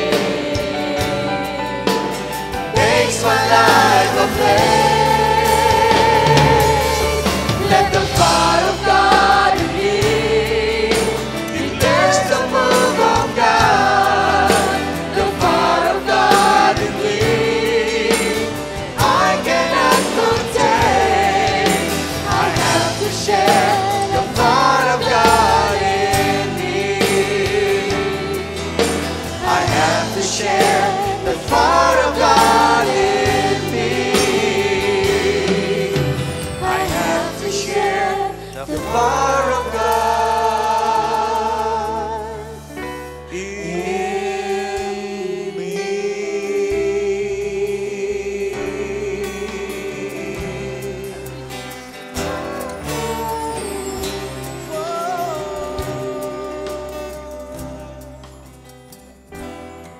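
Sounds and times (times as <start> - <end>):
many voices singing: 0.0 - 58.6
acoustic guitar: 0.0 - 59.9
drums: 0.0 - 59.9
keyboard: 0.0 - 59.9.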